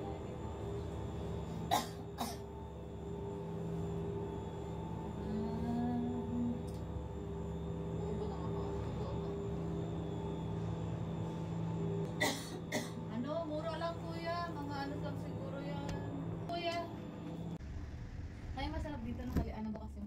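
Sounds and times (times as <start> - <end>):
cable car mechanical hum: 0.0 - 20.0.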